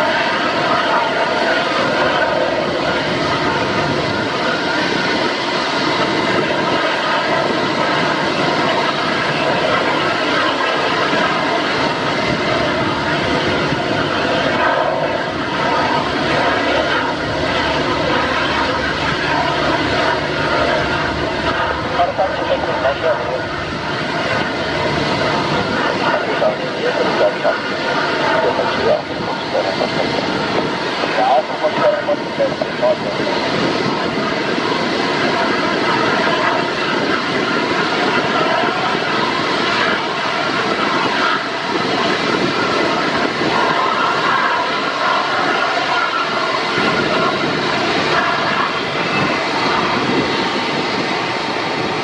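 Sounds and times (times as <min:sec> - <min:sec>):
jet engines at taxi power: 0:00.0 - 0:52.0.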